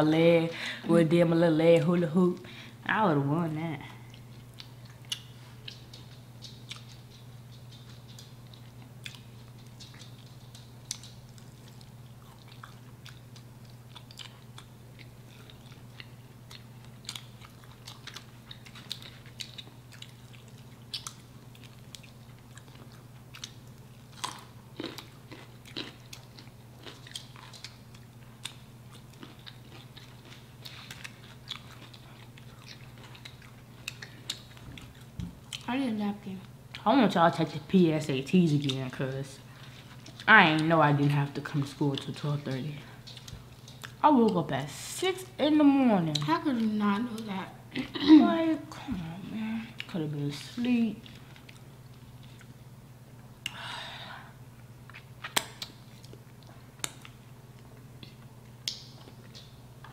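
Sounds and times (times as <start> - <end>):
steady low hum: 0.0 - 59.9
chewing and crunching: 3.8 - 37.7, 38.4 - 44.5, 46.0 - 48.3, 49.7 - 52.7, 54.8 - 59.9.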